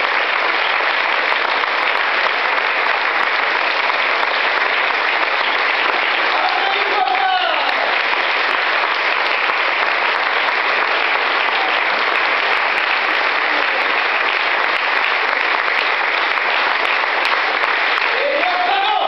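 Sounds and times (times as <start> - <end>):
audience applause: 0.0 - 19.0.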